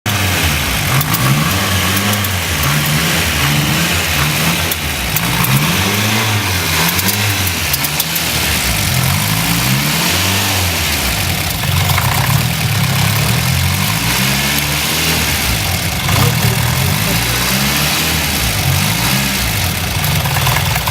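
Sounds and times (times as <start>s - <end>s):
turbocharged car engine revving: 0.0s - 20.9s
strange turbo noise: 0.1s - 20.9s.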